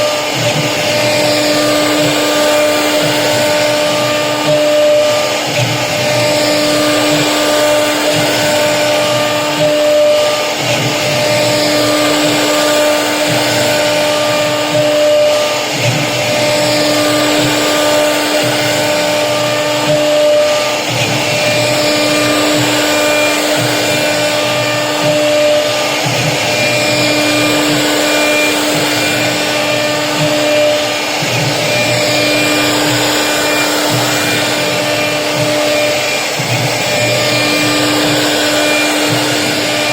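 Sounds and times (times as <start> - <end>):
bit cutting through board: 0.0 - 39.9
router spindle whine: 0.0 - 39.9.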